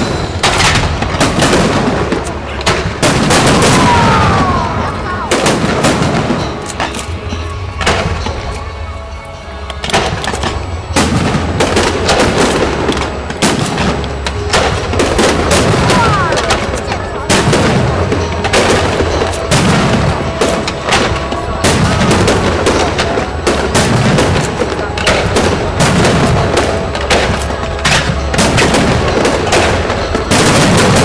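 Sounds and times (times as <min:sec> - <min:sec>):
fireworks bursting: 0:00.0 - 0:08.6, 0:09.7 - 0:31.0.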